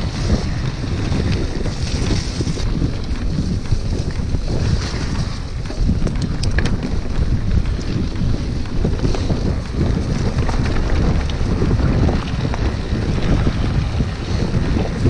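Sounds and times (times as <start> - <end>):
low rumble of bike tyres: 0.0 - 15.0
wind buffeting microphone: 0.0 - 15.0.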